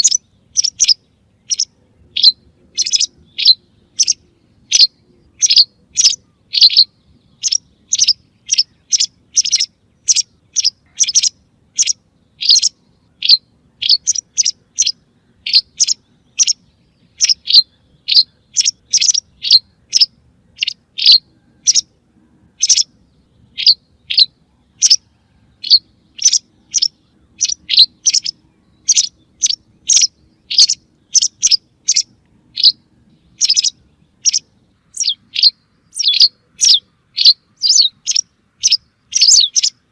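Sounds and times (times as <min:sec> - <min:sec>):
bird chirping sharply: 0:00.0 - 0:21.9, 0:22.6 - 0:39.9.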